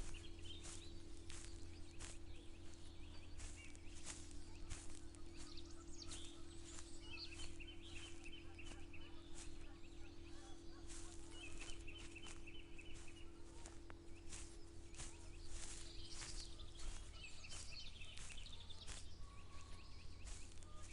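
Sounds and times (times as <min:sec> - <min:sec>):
footsteps through grass: 0:00.0 - 0:20.9
steady low hum: 0:00.0 - 0:20.9.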